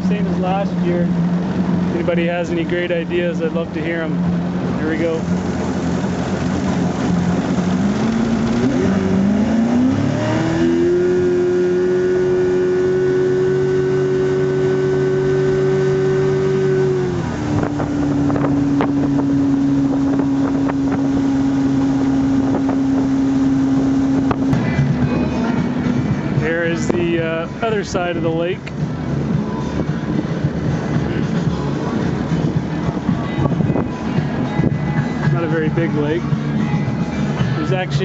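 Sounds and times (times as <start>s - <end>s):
outboard motor revving: 0.0s - 38.0s.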